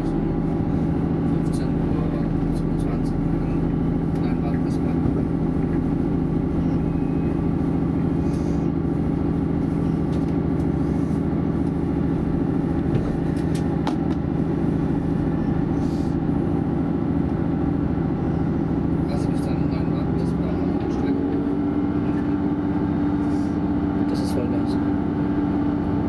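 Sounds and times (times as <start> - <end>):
diesel engine drone: 0.0 - 26.0.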